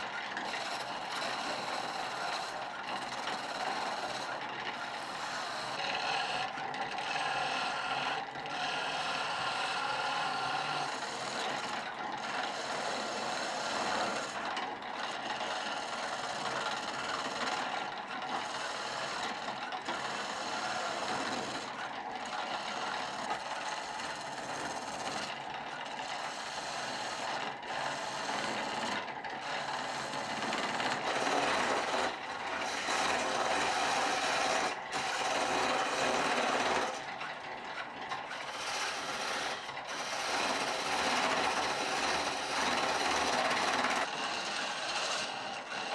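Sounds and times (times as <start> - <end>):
lathe tool scraping wood: 0.0 - 45.9.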